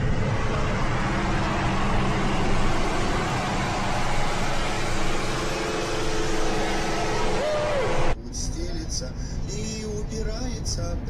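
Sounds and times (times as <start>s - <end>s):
vehicle engine hum and road rush: 0.0s - 11.0s.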